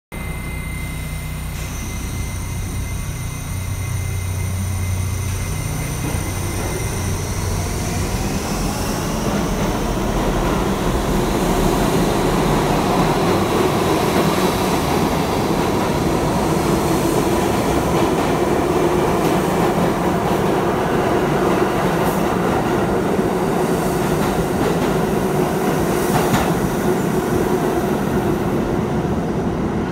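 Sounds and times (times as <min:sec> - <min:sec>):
subway train hum: 0:00.1 - 0:29.9
train whine rising in pitch: 0:00.2 - 0:29.9
wheels rumbling on rail: 0:01.6 - 0:29.9.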